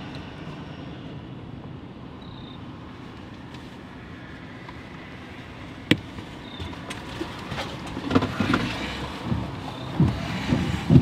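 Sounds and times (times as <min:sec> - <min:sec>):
low rumbling outdoor noise: 0:00.0 - 0:11.0.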